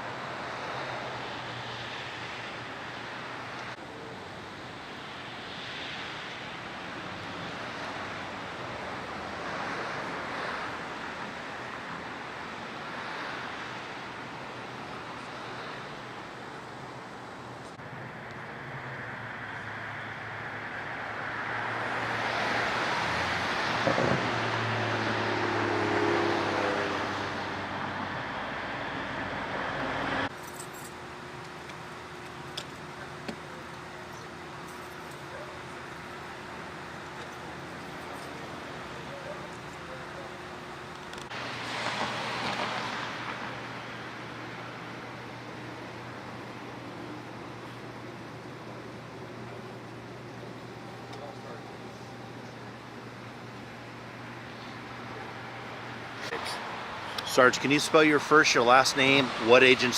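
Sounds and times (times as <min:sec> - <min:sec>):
cars passing: 0:00.0 - 0:59.9
vehicle engine hum: 0:00.0 - 0:59.9.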